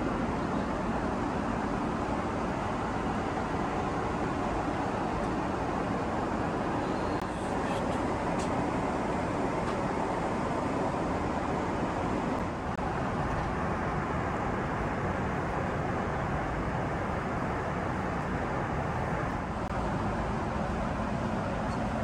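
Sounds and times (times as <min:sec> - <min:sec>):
airplane cabin noise: 0:00.0 - 0:22.0.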